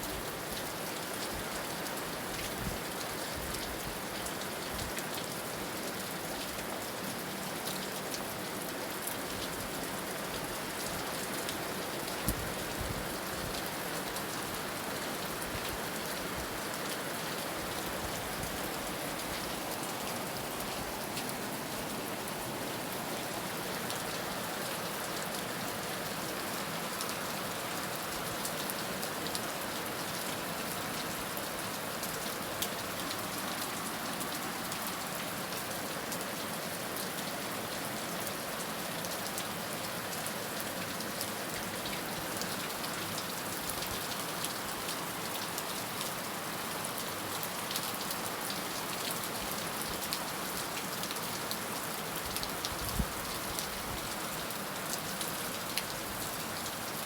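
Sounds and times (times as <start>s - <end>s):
heavy rain falling: 7.9s - 57.0s.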